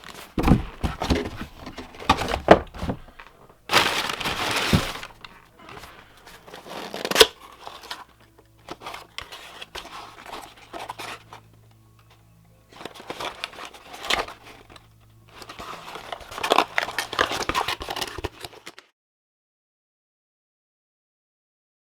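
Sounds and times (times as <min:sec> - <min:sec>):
plastic and cardboard crinkling: 0:00.0 - 0:18.9.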